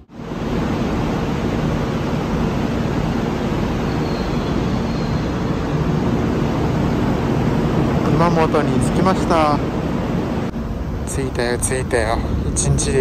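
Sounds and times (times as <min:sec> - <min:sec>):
train rumbling hiss: 0:00.0 - 0:13.0.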